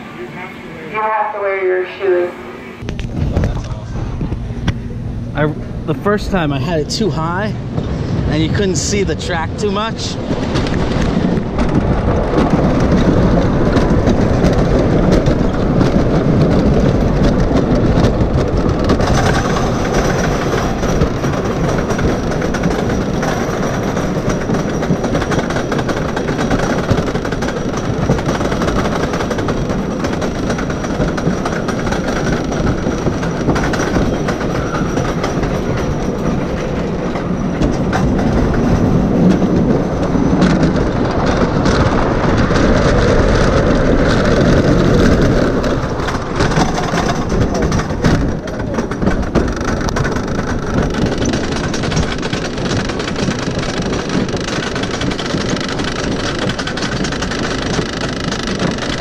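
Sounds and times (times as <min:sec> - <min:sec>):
roller coaster wheels on rails: 0:00.0 - 0:59.0.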